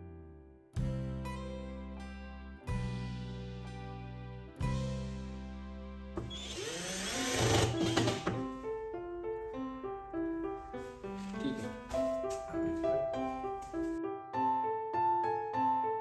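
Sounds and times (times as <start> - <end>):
background music: 0.0 - 15.7.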